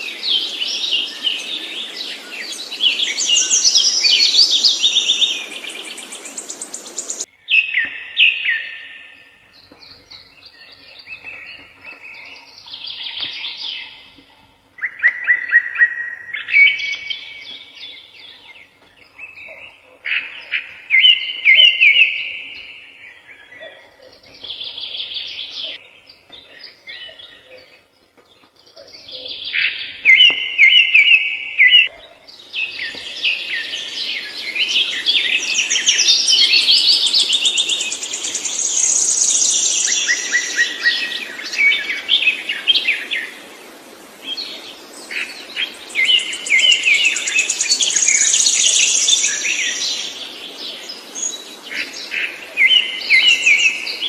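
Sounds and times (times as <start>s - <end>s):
background hiss: 0.0s - 54.0s
songbird chirping: 0.0s - 54.0s.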